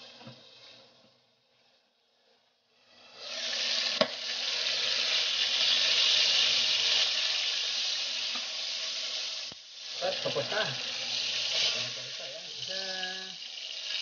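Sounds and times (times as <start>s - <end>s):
pork chops sizzling in oil: 2.8s - 14.0s.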